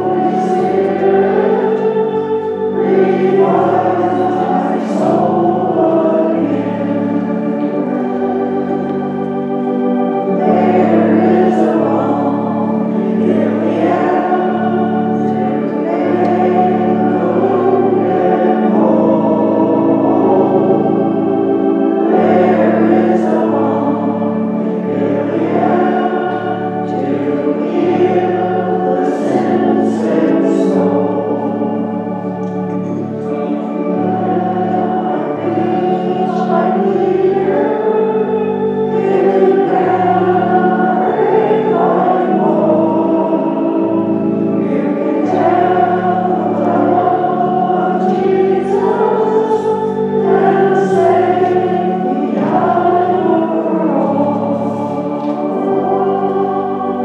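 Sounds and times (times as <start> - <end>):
organ holding sustained chords: 0.0 - 57.0
voices singing a hymn: 0.0 - 57.0.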